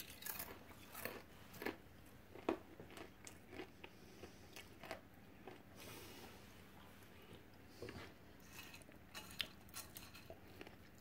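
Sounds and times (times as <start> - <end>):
person chewing popcorn: 0.0 - 6.0, 6.8 - 11.0.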